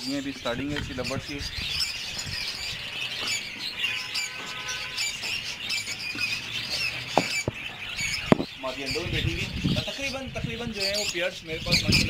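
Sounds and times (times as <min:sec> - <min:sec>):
parrots chattering and squawking: 0:00.0 - 0:12.0.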